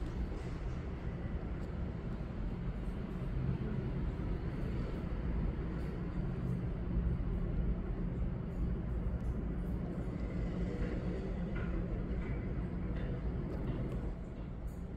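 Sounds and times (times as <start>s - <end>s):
steady low rumble: 0.0s - 14.9s.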